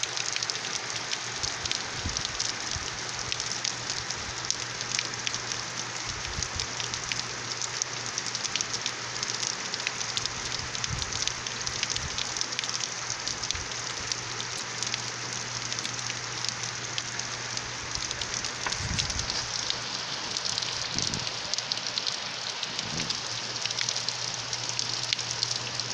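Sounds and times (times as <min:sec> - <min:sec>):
rain falling: 0:00.0 - 0:25.9
raindrops ticking sharply: 0:00.0 - 0:25.9.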